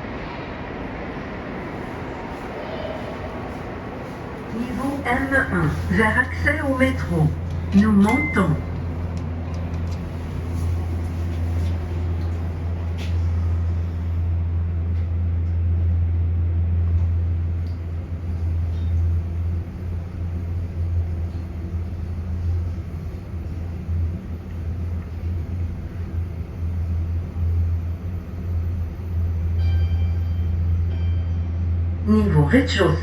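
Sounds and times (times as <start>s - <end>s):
elevator drive hum: 0.0s - 33.0s.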